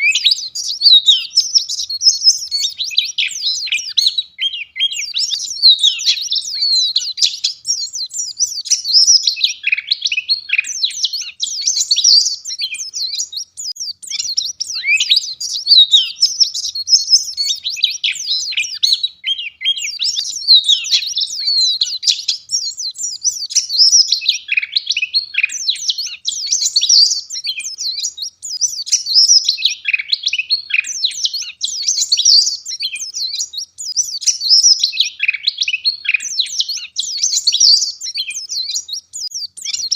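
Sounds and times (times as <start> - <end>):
bird twittering and warbling: 0.0 - 39.9.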